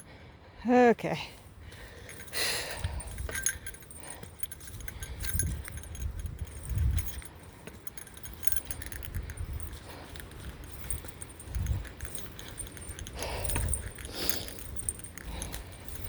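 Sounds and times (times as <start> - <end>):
small bell jingling: 1.7 - 16.0.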